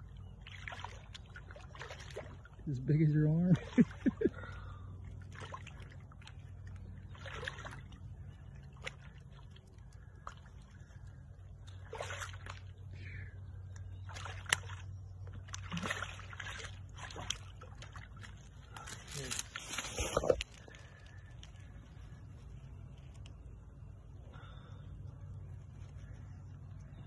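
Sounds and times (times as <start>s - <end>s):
water splashing and sloshing: 0.0s - 23.3s
steady low hum: 0.0s - 27.0s.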